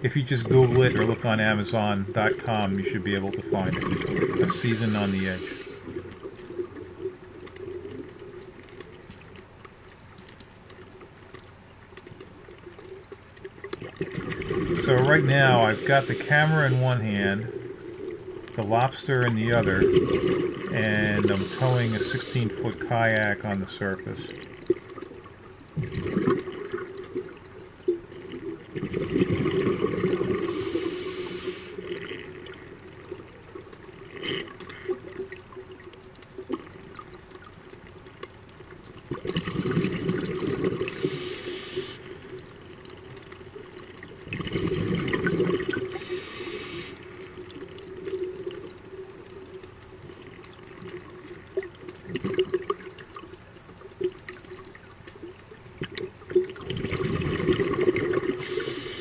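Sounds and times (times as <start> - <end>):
exhaled bubbles rushing underwater: 0.0 - 9.4, 12.4 - 37.5, 39.0 - 53.3, 54.0 - 59.0
water noise: 0.0 - 59.0.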